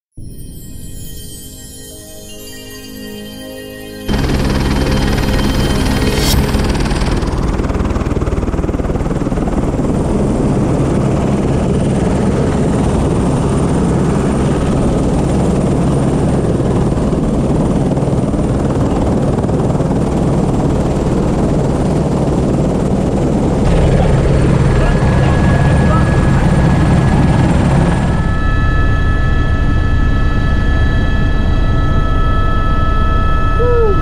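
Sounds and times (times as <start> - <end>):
helicopter rotor running: 3.9 - 34.0.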